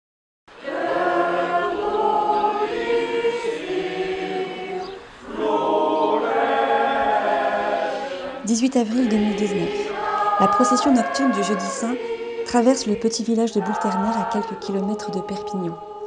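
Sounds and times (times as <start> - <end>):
group singing a hymn: 0.5 - 16.0.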